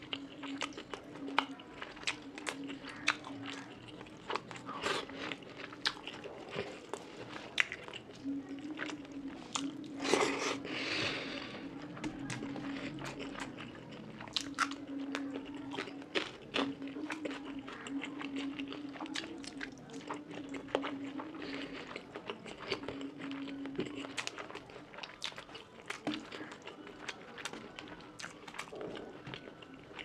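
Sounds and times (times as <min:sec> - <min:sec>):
close chewing with mouth clicks: 0:00.0 - 0:30.0.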